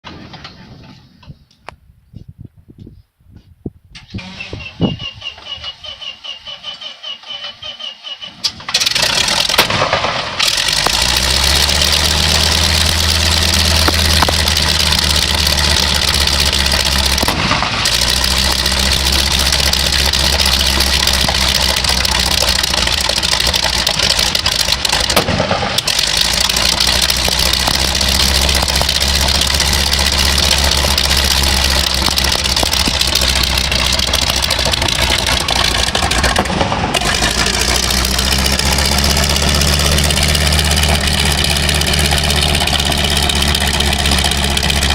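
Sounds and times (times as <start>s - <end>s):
radial engine starting and idling: 4.0s - 44.9s.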